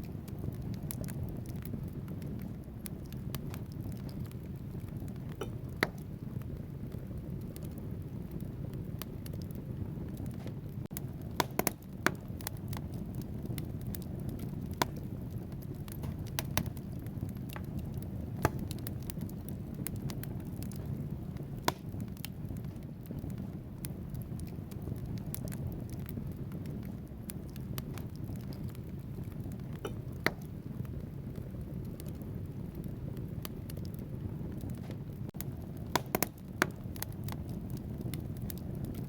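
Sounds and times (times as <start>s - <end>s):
fire flames rushing: 0.0s - 39.0s
logs crackling and popping: 0.0s - 39.0s.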